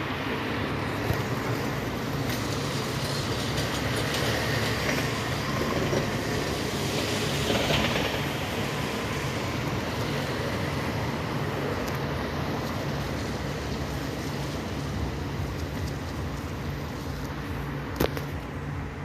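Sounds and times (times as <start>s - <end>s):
road traffic noise: 0.0s - 19.0s
vehicle passing: 0.0s - 19.0s.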